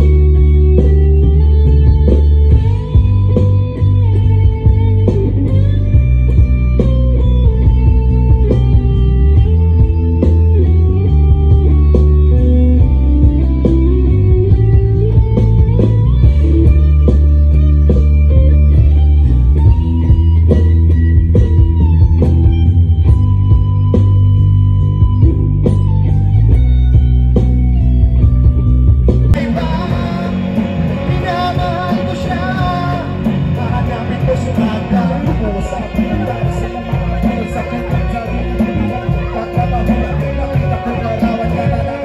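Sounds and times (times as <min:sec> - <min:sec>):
electric guitar melody: 0:00.0 - 0:42.0
rock song with singing: 0:00.0 - 0:42.0.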